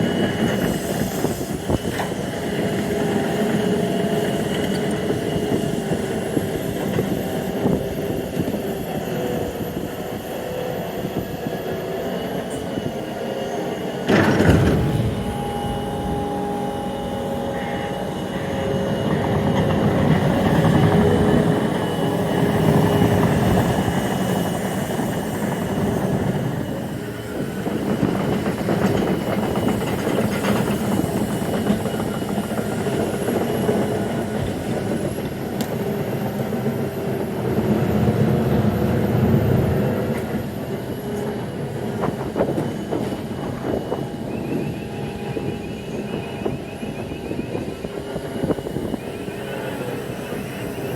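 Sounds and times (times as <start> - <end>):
freight train rumbling past: 0.0 - 50.9.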